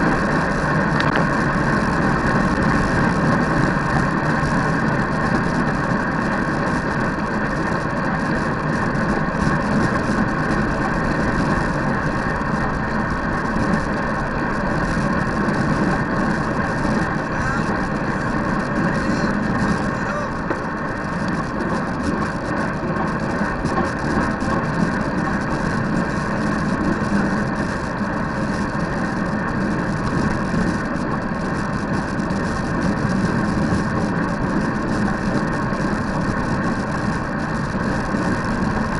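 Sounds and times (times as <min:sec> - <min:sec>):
bicycle road noise: 0:00.0 - 0:38.9
wind rush on microphone: 0:00.0 - 0:38.9.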